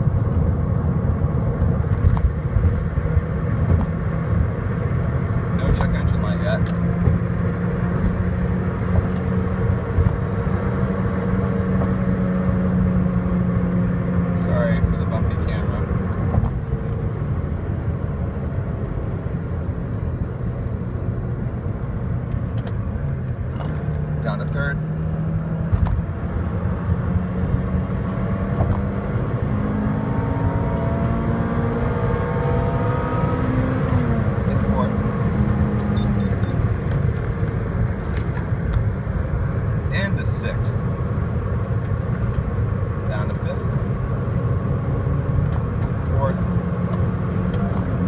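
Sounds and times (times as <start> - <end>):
car engine running at high speed: 0.0 - 48.0
road noise: 0.0 - 48.0.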